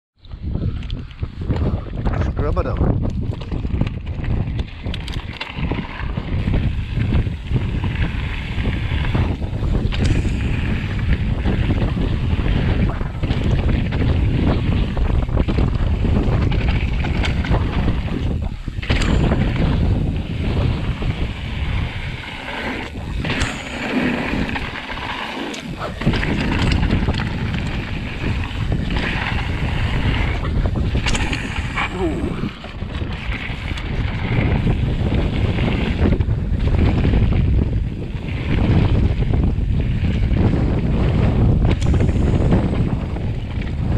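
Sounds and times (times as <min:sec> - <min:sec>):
bike clicks and rattles: 0:00.2 - 0:43.9
bike tyres rumbling on gravel: 0:00.2 - 0:43.9
wind on microphone: 0:00.2 - 0:43.9.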